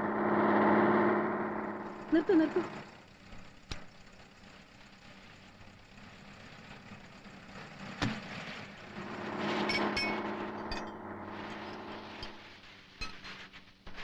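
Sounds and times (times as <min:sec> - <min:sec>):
small engine running: 0:00.0 - 0:12.6.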